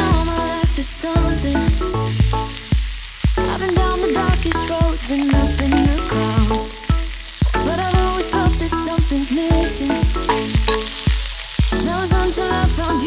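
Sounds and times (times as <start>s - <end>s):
background music with bass: 0.0s - 13.0s
food sizzling in a pan: 2.4s - 13.0s.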